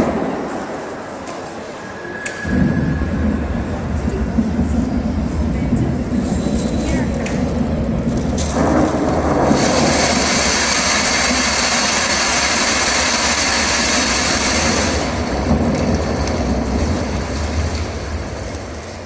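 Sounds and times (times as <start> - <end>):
steady rushing noise: 0.0 - 19.0
low thunder rumble: 2.4 - 19.0.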